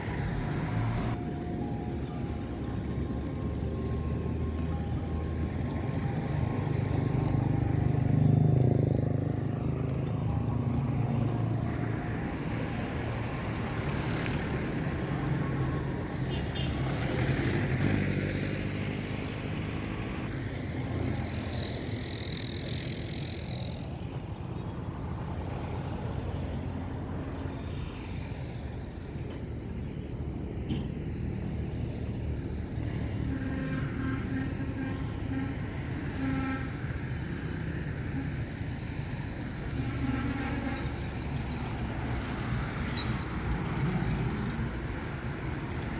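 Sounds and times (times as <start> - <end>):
cars passing: 0.0 - 45.9
vehicle engines running: 0.0 - 45.9.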